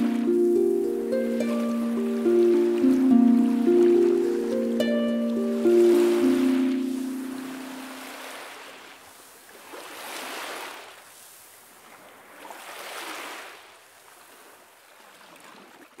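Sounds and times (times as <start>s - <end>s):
small waves washing on beach: 0.0s - 16.0s.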